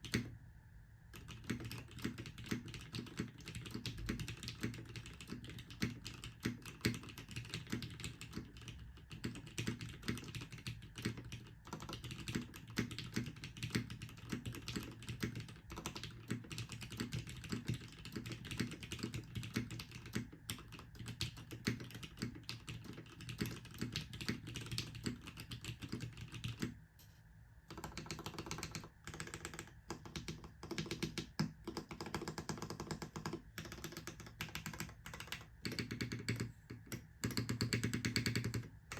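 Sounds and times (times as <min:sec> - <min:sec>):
typing on mechanical keyboard: 0:00.0 - 0:00.3, 0:01.1 - 0:26.8, 0:27.7 - 0:38.9.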